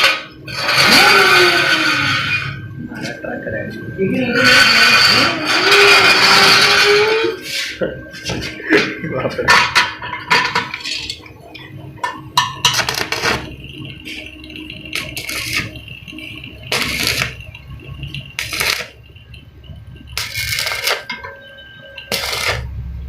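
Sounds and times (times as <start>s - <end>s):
metallic clatter and scraping: 0.0s - 22.7s.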